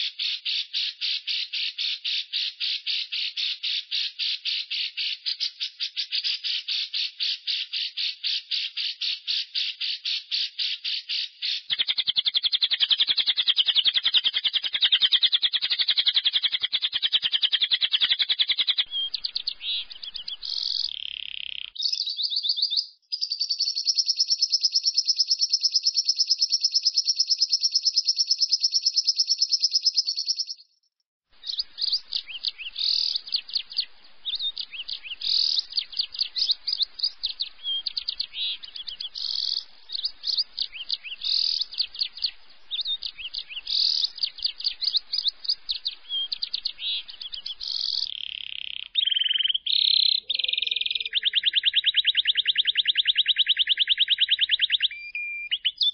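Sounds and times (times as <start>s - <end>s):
bird chattering and chirping: 0.0s - 30.7s, 31.4s - 55.9s
bird trilling: 0.0s - 30.7s, 31.4s - 55.9s.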